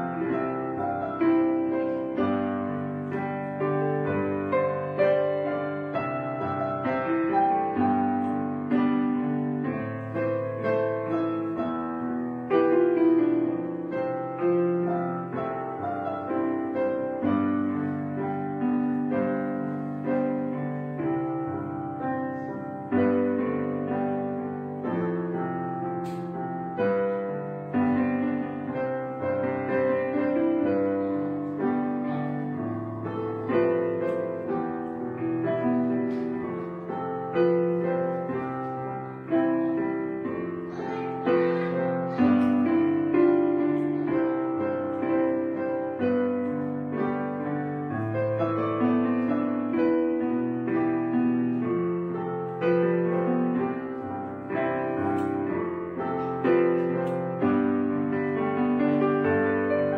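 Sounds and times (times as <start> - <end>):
piano background music: 0.0 - 59.9.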